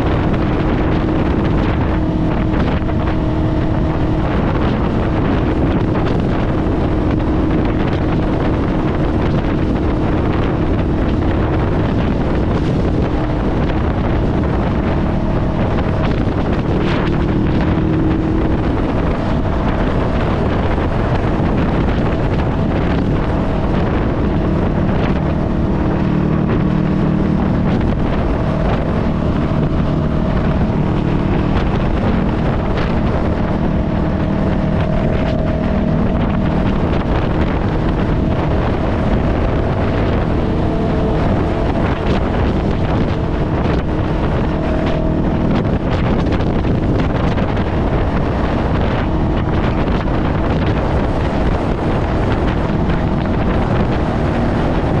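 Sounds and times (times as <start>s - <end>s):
motorcycle engine revving: 0.0s - 55.0s
wind noise on microphone: 0.0s - 55.0s.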